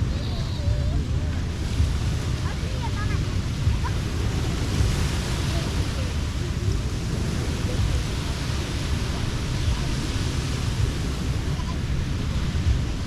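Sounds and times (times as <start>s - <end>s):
faint voices: 0.0s - 13.0s
surf washing: 0.0s - 13.0s
wind rumbling on microphone: 0.0s - 13.0s.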